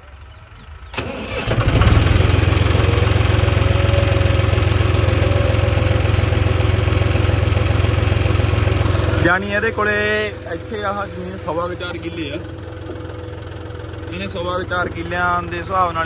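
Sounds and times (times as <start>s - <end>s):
tractor diesel engine starting: 0.1s - 16.0s.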